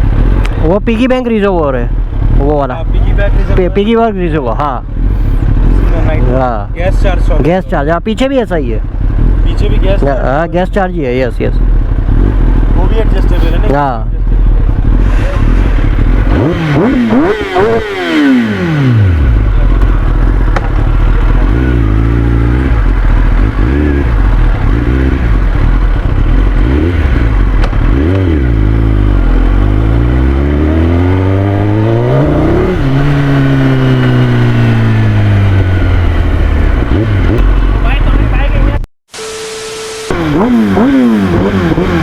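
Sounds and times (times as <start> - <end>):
motorcycle engine revving: 0.0 - 38.8, 40.0 - 42.0.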